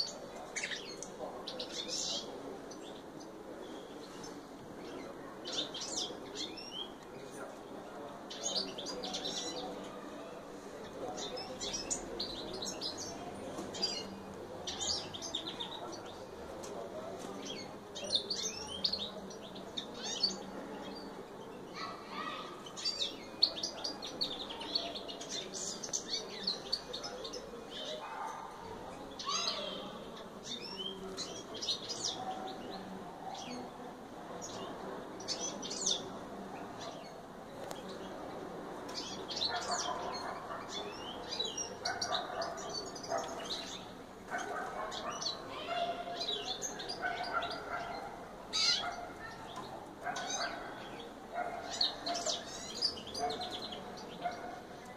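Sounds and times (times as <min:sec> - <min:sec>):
canaries chirping: 0:00.0 - 0:32.7, 0:34.4 - 0:54.9.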